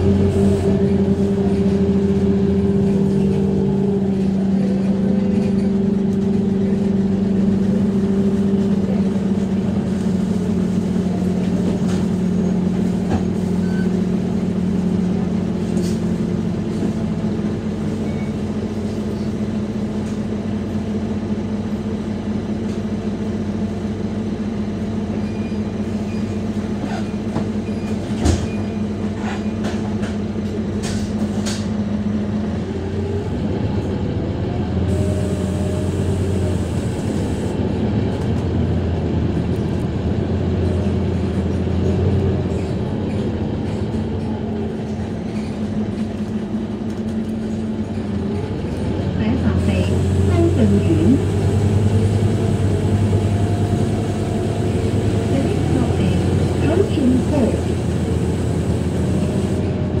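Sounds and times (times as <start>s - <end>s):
bus diesel engine running: 0.0s - 60.0s.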